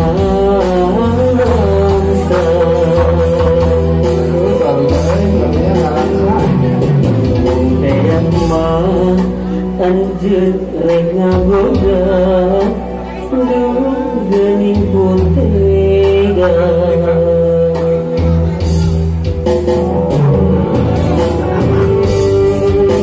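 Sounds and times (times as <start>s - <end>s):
backing music with bass and drums: 0.0s - 23.0s
man singing into microphone: 0.0s - 23.0s.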